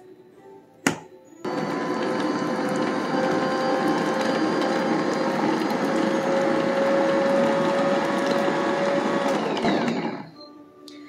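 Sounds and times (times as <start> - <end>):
stand mixer motor hum and whine: 1.4 - 10.4.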